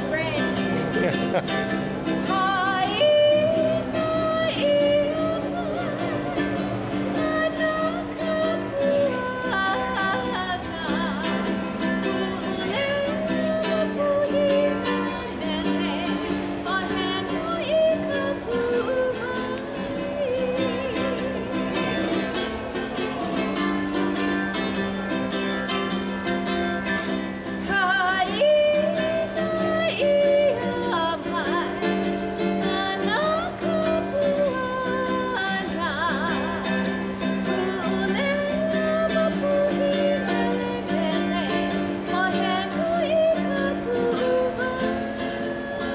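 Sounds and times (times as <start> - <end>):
woman singing: 0.0 - 0.8, 2.0 - 22.6, 23.2 - 45.9
ukulele strumming: 0.0 - 45.9.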